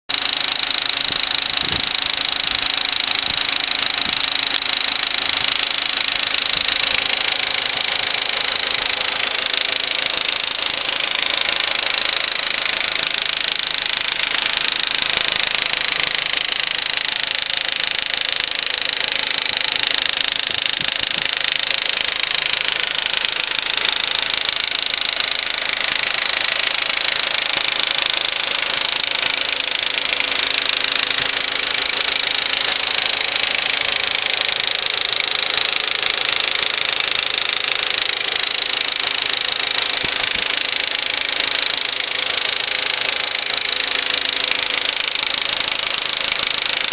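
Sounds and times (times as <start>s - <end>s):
car engine idling: 0.1s - 46.9s
rapid clicking tick: 0.1s - 46.9s.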